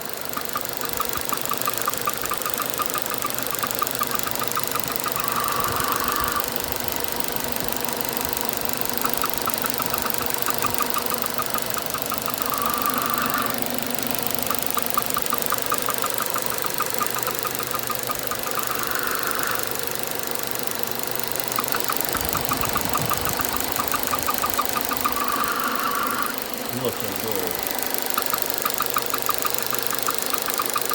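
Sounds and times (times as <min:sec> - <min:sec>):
rapid mechanical ticking: 0:00.0 - 0:30.9
steady low hum: 0:00.0 - 0:30.9.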